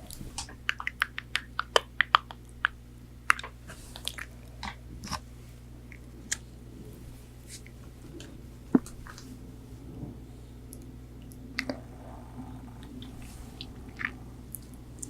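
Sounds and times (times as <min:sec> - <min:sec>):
crunchy chewing: 0:00.0 - 0:09.4, 0:10.6 - 0:15.0.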